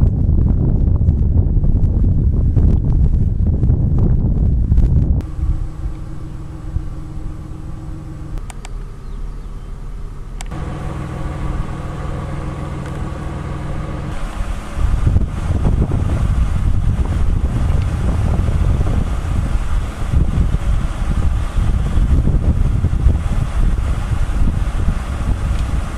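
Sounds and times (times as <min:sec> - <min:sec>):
vehicle engine hum and road rumble: 0:00.0 - 0:25.9
wind buffeting microphone: 0:00.0 - 0:25.9.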